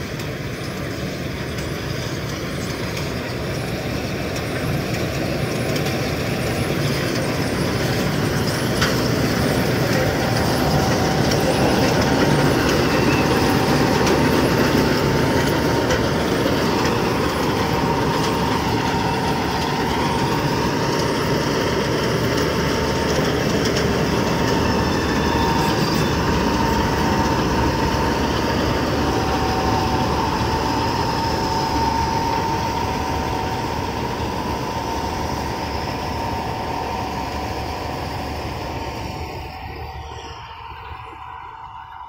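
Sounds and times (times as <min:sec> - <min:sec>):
combine harvester engine running: 0:00.0 - 0:42.0
high steady whine: 0:00.0 - 0:42.0.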